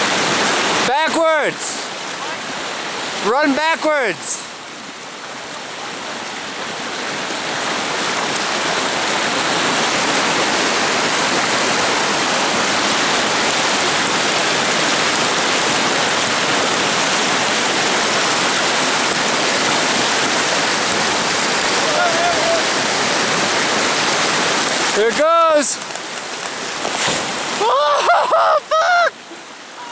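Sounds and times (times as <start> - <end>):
river whitewater rushing: 0.0 - 29.9.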